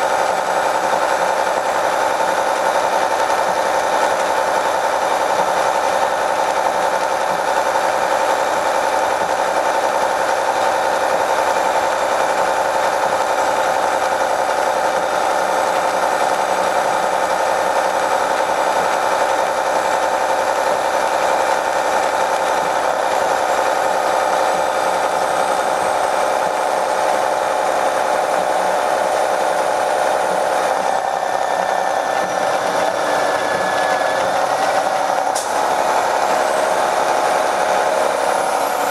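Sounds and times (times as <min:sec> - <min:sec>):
bus engine drone with high whine: 0:00.0 - 0:38.9.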